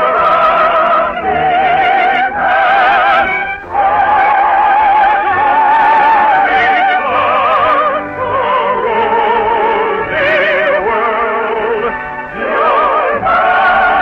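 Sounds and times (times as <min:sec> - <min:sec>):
operatic singing: 0:00.0 - 0:14.0.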